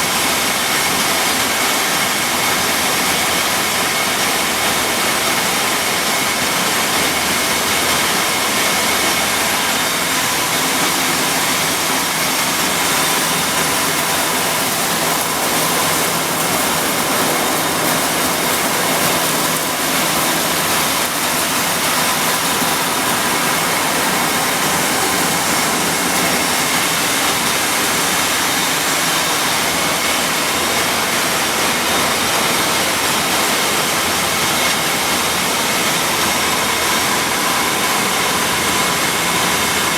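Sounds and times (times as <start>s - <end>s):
milling machinery running: 0.0s - 39.9s.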